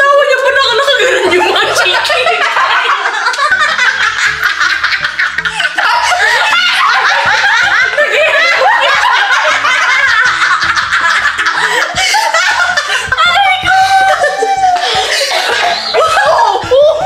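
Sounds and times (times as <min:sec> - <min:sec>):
background music with bass line: 0:00.7 - 0:17.0
women laughing: 0:00.8 - 0:17.0.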